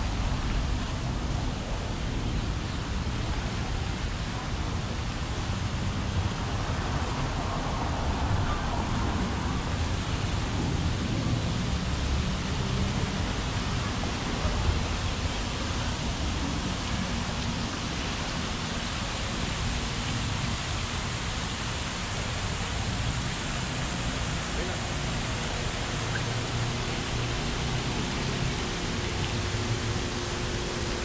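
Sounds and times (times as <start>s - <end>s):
fountain water splashing: 0.0s - 31.0s.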